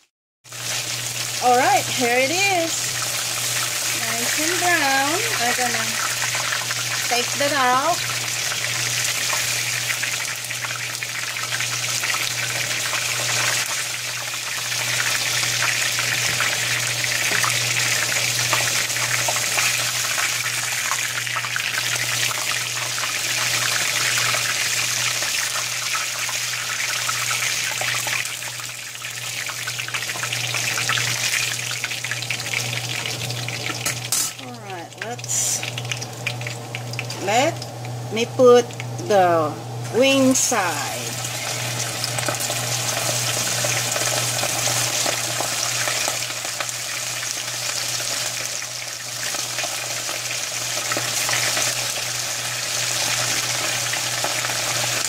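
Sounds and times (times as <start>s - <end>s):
chicken wings sizzling in oil: 0.0s - 55.0s
constant low hum: 0.7s - 55.0s.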